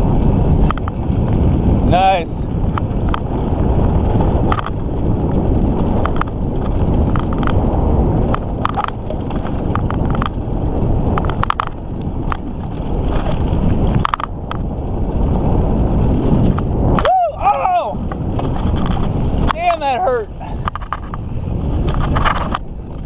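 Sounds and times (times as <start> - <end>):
bike rattling over ground: 0.0 - 23.0
wind and tyre noise: 0.0 - 23.0.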